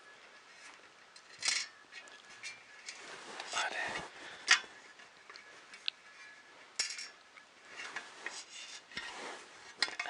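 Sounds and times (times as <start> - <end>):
parts rubbing and scraping: 0.4 - 10.0.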